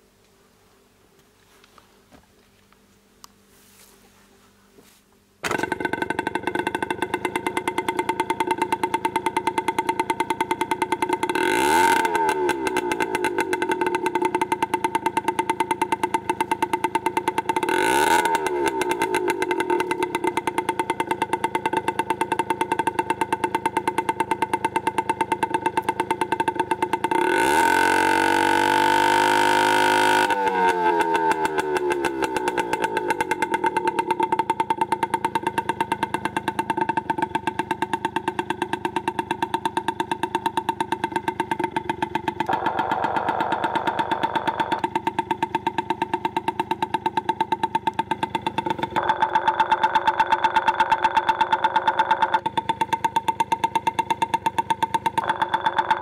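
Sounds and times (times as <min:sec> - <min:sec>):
scooter engine idling and revving: 0:05.4 - 0:56.0.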